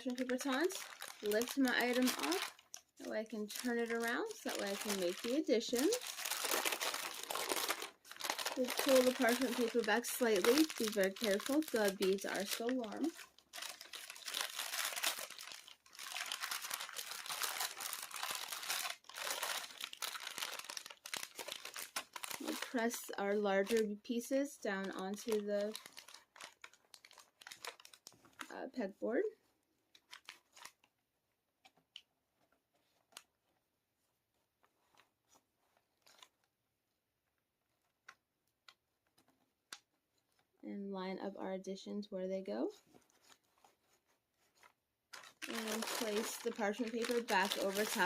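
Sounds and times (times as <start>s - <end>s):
parchment paper crinkling: 0.0s - 28.9s, 29.5s - 36.6s, 42.6s - 48.0s.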